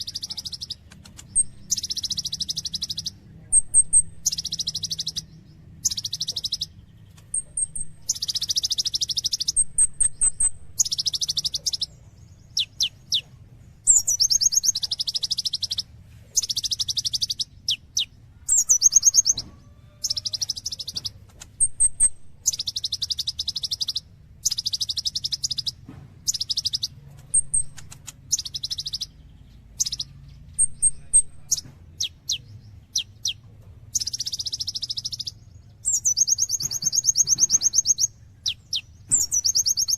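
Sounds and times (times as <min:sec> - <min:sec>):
bird singing rapid trills: 0:00.0 - 0:39.9
faint low hum: 0:00.0 - 0:39.9.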